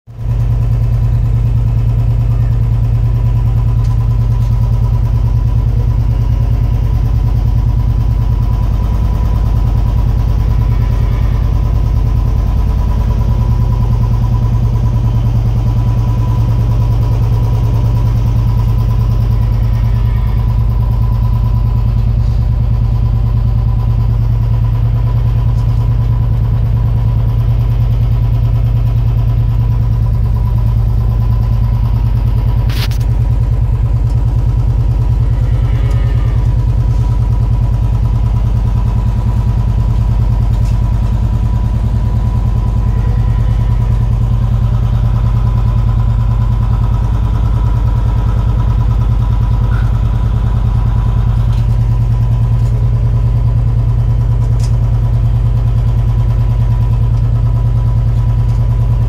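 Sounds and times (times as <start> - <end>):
engine idling: 0.1 - 59.0.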